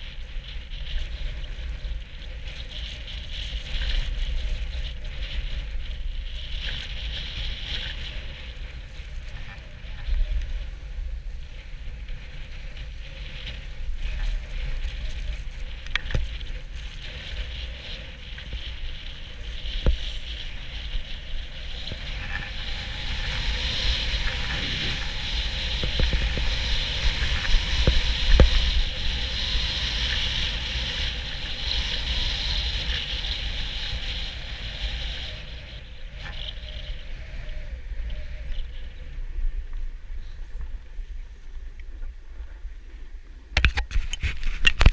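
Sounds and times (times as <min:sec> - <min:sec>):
wind rumbling on microphone: 0:00.0 - 0:44.9
ski edges sliding on snow: 0:00.2 - 0:37.2.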